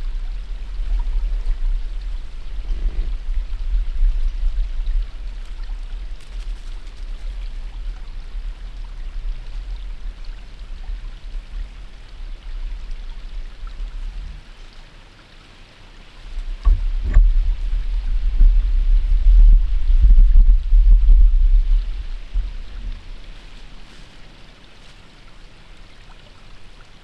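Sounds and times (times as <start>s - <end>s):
low rumble on microphone: 0.0s - 27.0s.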